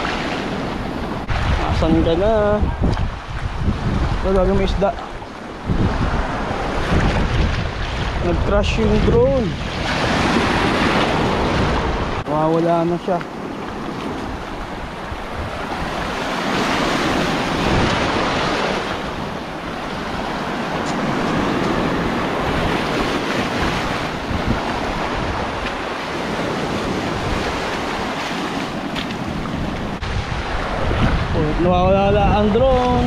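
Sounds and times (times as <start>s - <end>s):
waves washing over rocks: 0.0s - 33.0s
wind rumbling on microphone: 0.0s - 33.0s.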